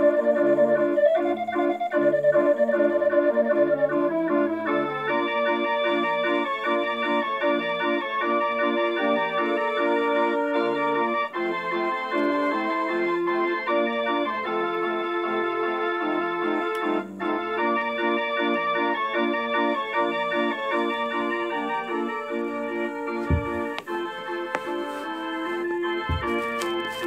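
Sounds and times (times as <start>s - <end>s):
street organ playing a tune: 0.0s - 27.0s.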